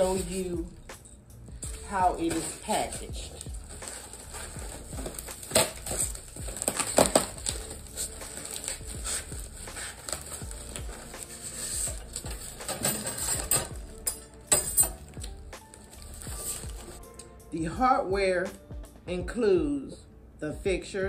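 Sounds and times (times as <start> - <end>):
plastic wrapping rustling: 0.0 - 17.0.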